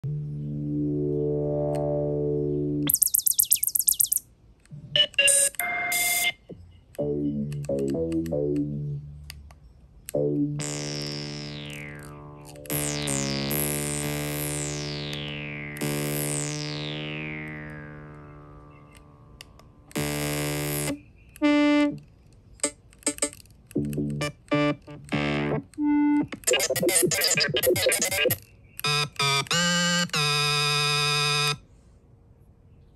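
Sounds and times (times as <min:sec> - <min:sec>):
synthesizer notes: 0:00.0 - 0:04.2, 0:04.9 - 0:09.4, 0:10.1 - 0:22.0, 0:23.1 - 0:31.6.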